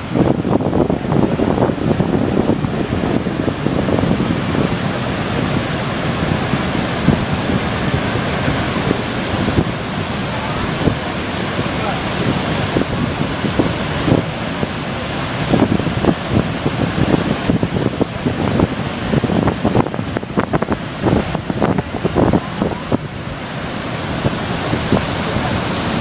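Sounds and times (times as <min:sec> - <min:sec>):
waterfall rushing: 0:00.0 - 0:26.0
wind buffeting microphone: 0:00.0 - 0:26.0.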